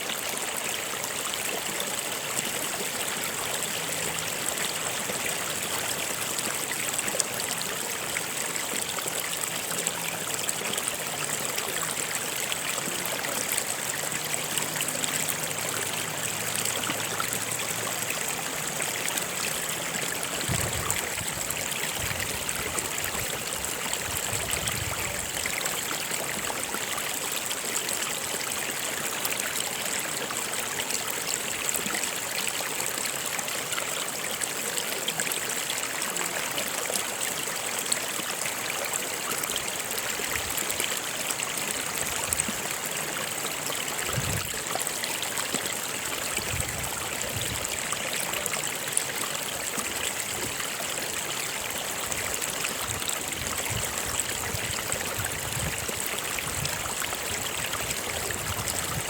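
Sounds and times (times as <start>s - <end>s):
low water gurgles: 0.0s - 59.0s
stream flowing over rocks: 0.0s - 59.0s.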